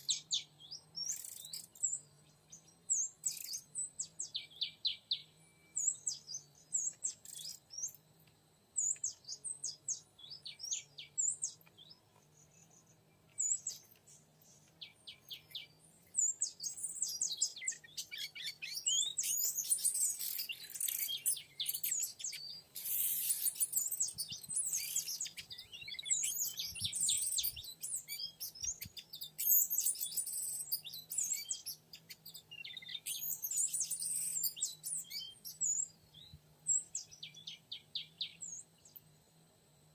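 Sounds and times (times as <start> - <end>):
bird whistles and chirps: 0.0 - 8.0, 8.8 - 38.6.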